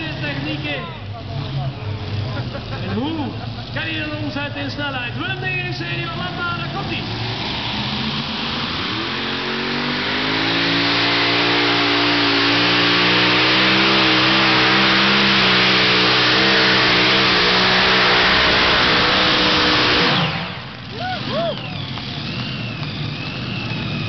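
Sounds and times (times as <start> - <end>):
tractor engine running flat out: 0.0 - 24.0.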